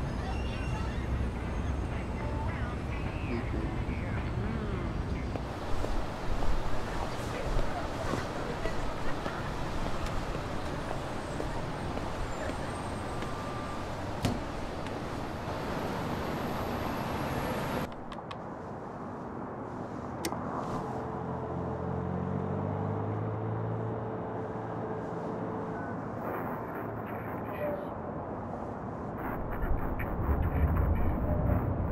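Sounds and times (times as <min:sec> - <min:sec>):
passing cars in city street: 0:00.0 - 0:31.9.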